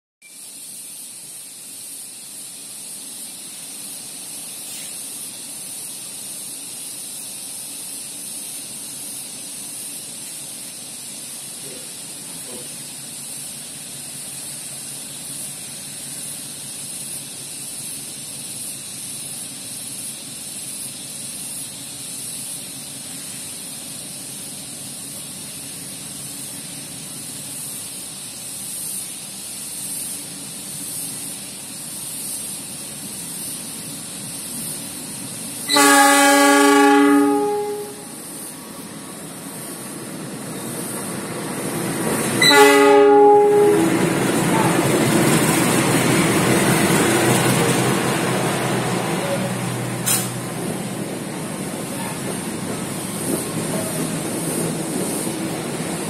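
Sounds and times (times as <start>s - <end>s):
steady high hiss: 0.2s - 56.0s
diesel locomotive engine rumble: 0.6s - 56.0s.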